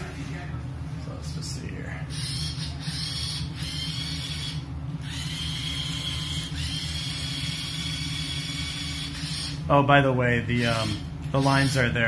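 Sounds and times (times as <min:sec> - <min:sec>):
electric motors humming and whining: 0:00.0 - 0:12.0.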